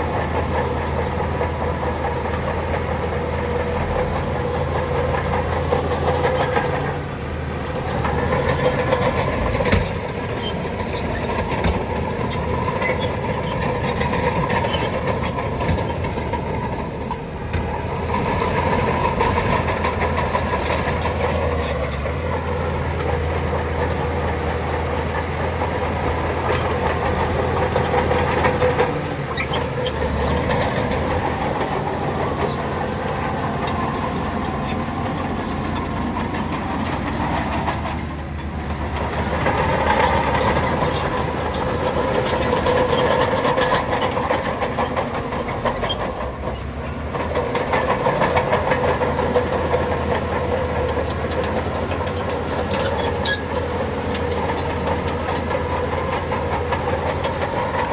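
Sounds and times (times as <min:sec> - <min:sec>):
bulldozer diesel engine under load: 0:00.0 - 0:57.9
steel crawler tracks clattering: 0:00.0 - 0:57.9.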